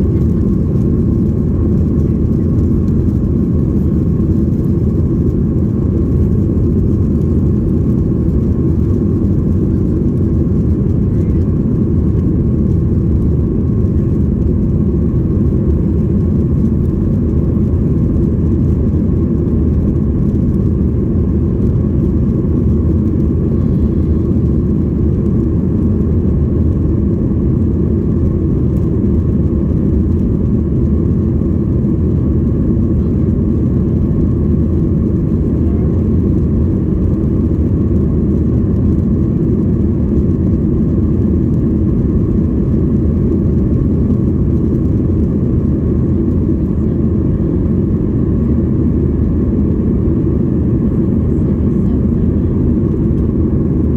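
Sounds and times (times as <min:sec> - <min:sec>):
airplane cabin rumble: 0:00.0 - 0:53.9
faint steady hum: 0:00.0 - 0:53.9.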